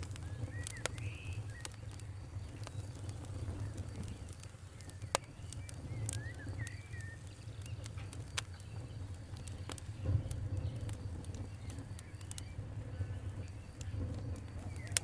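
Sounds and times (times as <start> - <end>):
wood fire crackling and popping: 0.0 - 15.0
faint bird chirps: 0.1 - 15.0.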